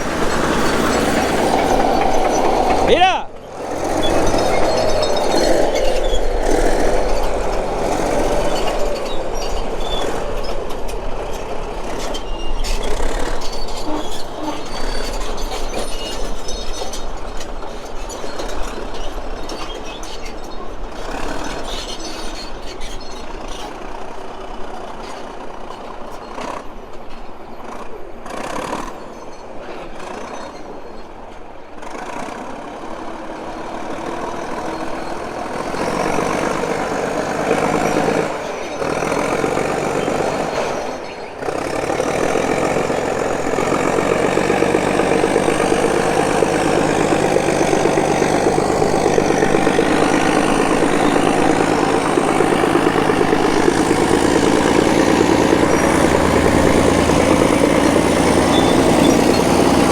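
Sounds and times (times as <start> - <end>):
diesel engine running: 0.0 - 22.2, 31.8 - 59.9
tracks clanking and rattling: 0.0 - 59.9.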